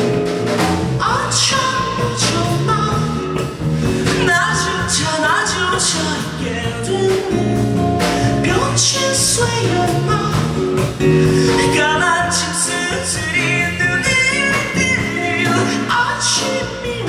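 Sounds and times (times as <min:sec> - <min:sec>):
acoustic guitar: 0:00.0 - 0:17.0
man singing: 0:01.0 - 0:17.0.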